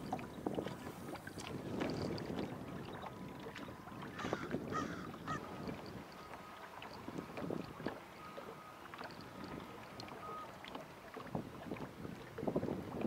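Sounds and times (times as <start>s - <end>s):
wind on microphone: 0.0s - 8.1s, 9.0s - 13.0s
waves slapping against boat hull: 0.0s - 13.0s.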